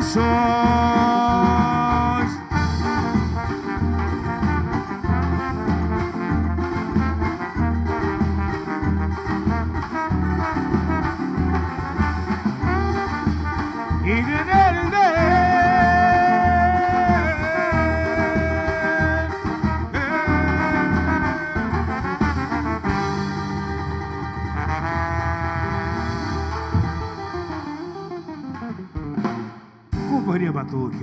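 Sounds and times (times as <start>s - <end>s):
steady drum beat: 0.0s - 27.6s, 29.0s - 30.5s
band music: 0.0s - 31.0s.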